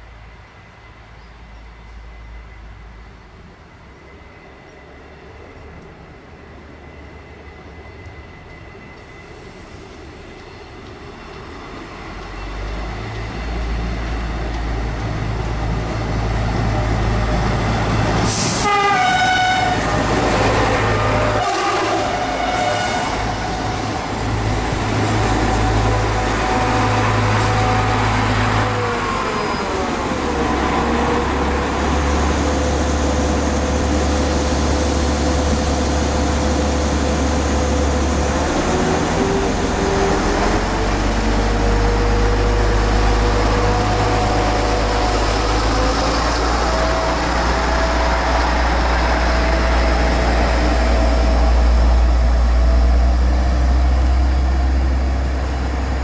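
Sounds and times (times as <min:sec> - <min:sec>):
diesel railcar engine: 0:00.0 - 0:56.0.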